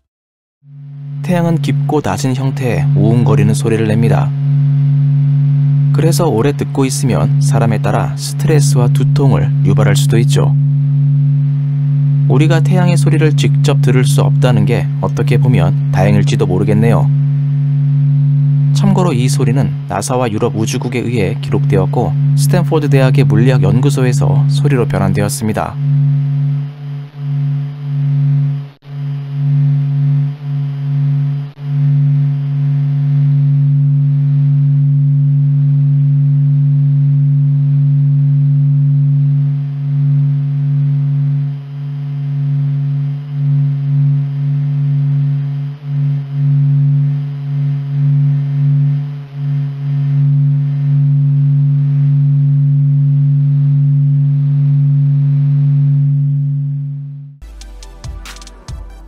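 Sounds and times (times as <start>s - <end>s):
deep low steady hum: 0.6s - 59.0s.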